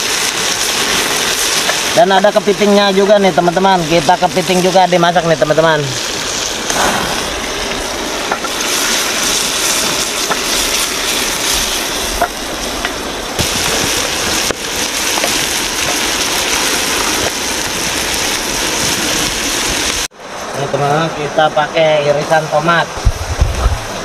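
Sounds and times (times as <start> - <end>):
seafood sizzling in a wok: 0.0 - 20.1.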